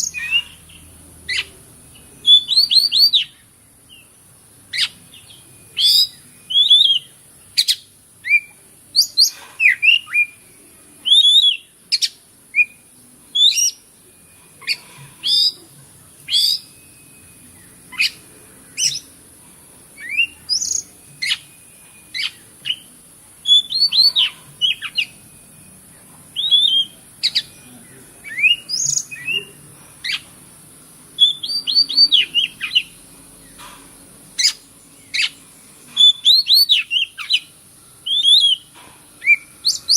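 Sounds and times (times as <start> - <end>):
bird whistling song: 0.0 - 4.1, 4.7 - 15.7, 16.3 - 19.2, 20.0 - 25.6, 26.3 - 30.3, 31.2 - 33.6, 34.3 - 39.9
steady high hiss: 0.0 - 39.9.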